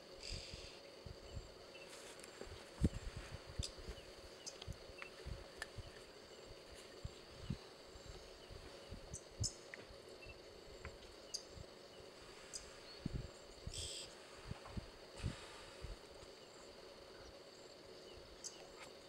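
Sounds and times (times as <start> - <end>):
insect hum: 0.0 - 19.0.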